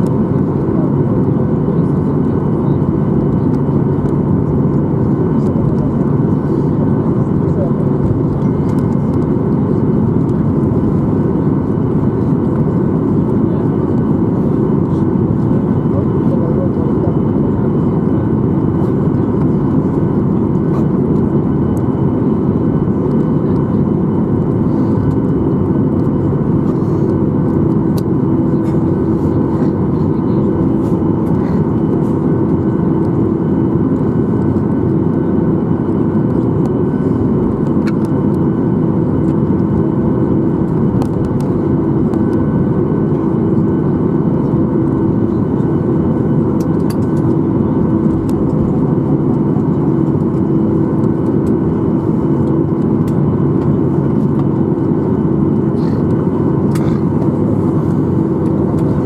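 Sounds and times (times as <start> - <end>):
airplane cabin hum: 0.0 - 59.0.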